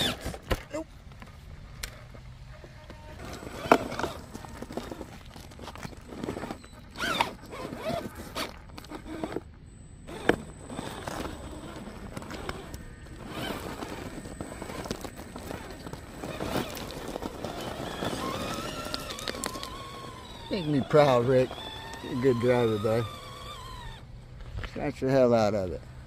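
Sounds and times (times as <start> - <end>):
faint electric motor whine: 0.0 - 26.0
tires crunching on rocks: 0.0 - 26.0.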